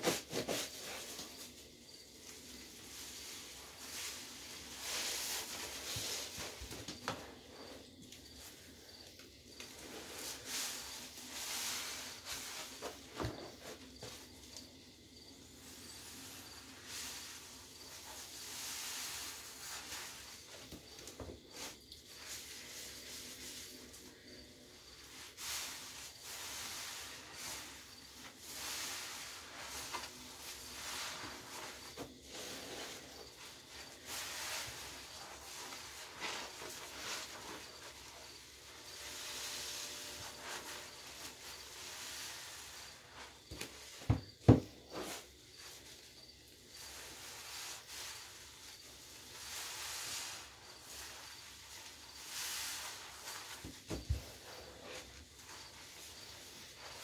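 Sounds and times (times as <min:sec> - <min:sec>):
sponges squelching with foamy hiss: 0:00.0 - 0:57.0.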